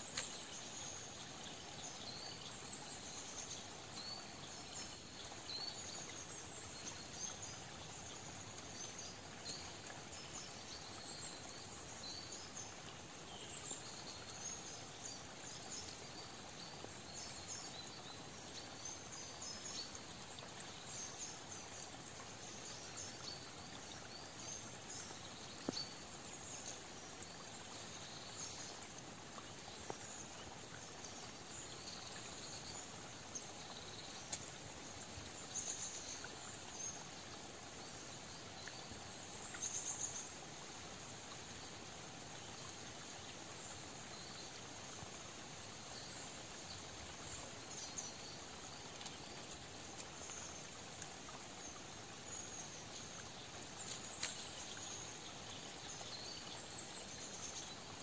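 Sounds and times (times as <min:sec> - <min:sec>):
faint steady hiss: 0:00.0 - 0:58.0
small birds chirping: 0:00.0 - 0:58.0.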